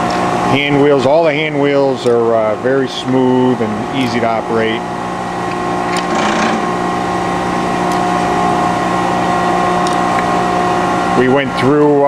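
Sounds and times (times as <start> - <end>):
grinder machine humming: 0.0 - 12.0.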